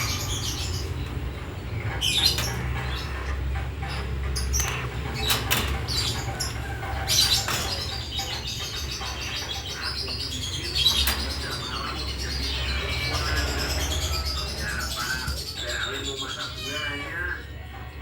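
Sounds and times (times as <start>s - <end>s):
nightjar chirping: 0.0s - 17.6s.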